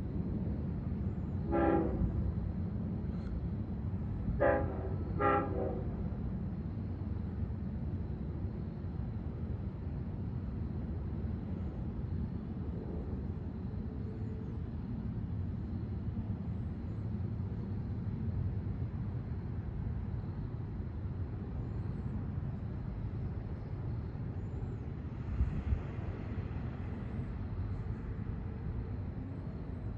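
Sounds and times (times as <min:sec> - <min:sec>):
diesel train rumble: 0:00.0 - 0:29.9.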